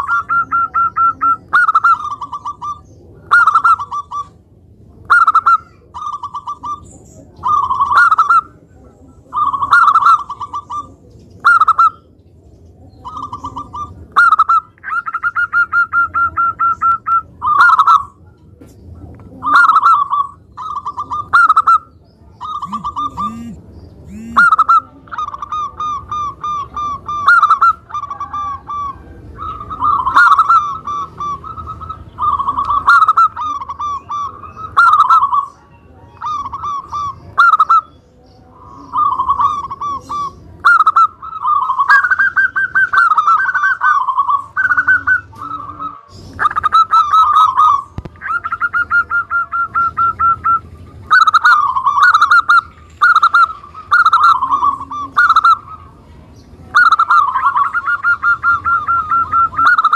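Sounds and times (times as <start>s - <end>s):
dove cooing: 0.0s - 12.2s, 12.8s - 59.9s.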